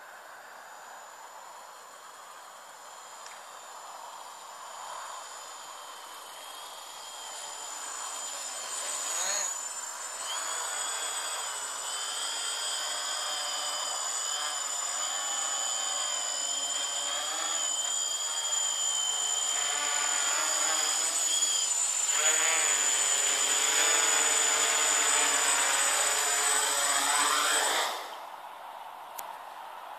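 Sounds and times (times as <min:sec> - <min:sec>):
quadcopter motors buzzing: 0:00.0 - 0:28.4
high-pitched whine: 0:00.0 - 0:28.5.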